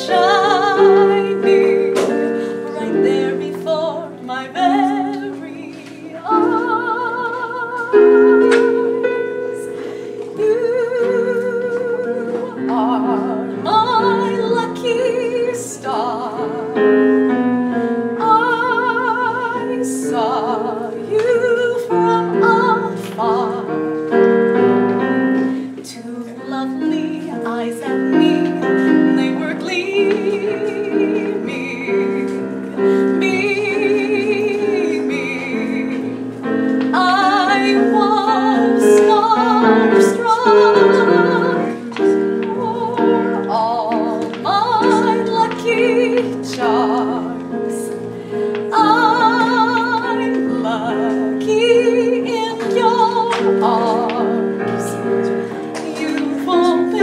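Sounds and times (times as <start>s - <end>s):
person singing with vibrato: 0.0s - 57.0s
piano accompaniment: 0.0s - 57.0s.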